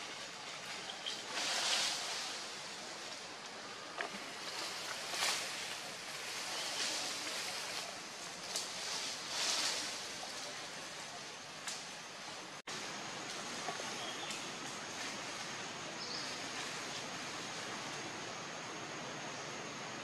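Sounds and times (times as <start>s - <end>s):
hiss of leaves and air: 0.0s - 20.0s
leaves rustling: 0.0s - 20.0s.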